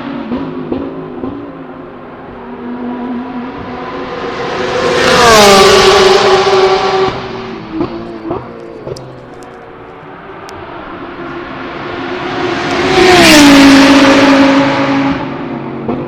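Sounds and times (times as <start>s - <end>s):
race car passing at speed: 0.0s - 16.0s.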